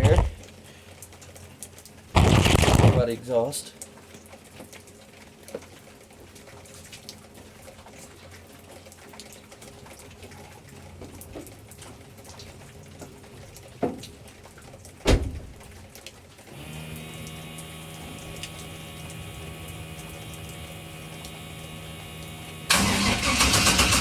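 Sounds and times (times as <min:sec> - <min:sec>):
light rain dripping and pattering: 0:00.0 - 0:24.0.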